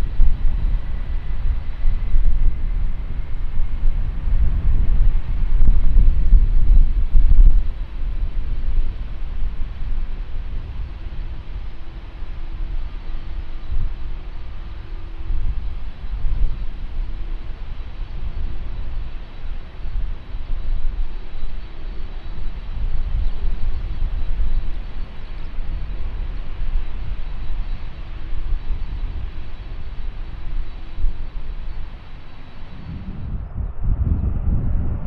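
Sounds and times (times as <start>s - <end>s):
faint high whine: 0.0s - 35.0s
jet engines rumbling: 0.0s - 35.0s.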